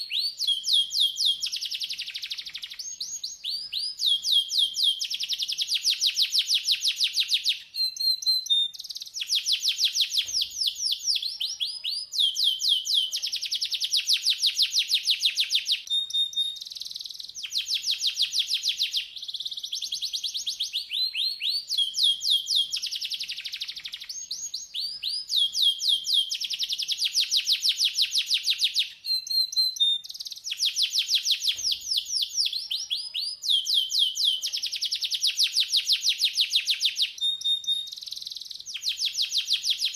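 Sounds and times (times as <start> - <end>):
bird whistle: 0.0 - 39.9
canary singing trills: 0.0 - 39.9.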